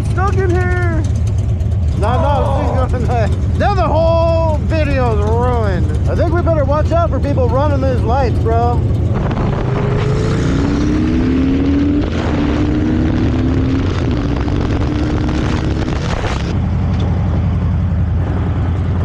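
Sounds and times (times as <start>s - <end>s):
motorcycle engine accelerating: 0.0s - 19.0s
heavy wind noise: 2.8s - 19.0s.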